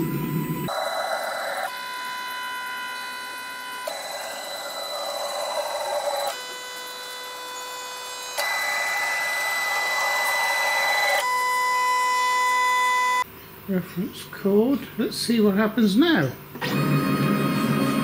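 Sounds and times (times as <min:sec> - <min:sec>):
stepper motors whining: 0:00.0 - 0:13.2, 0:16.6 - 0:18.0.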